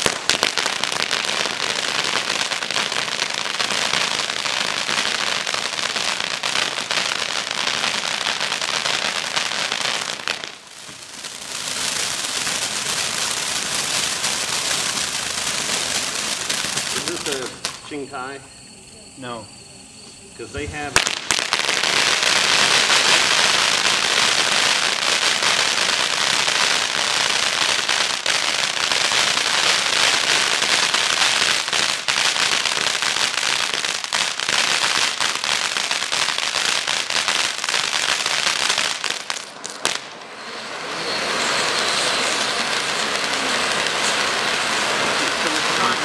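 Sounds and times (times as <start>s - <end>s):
fountain firework crackling: 0.0s - 18.4s, 20.4s - 46.0s.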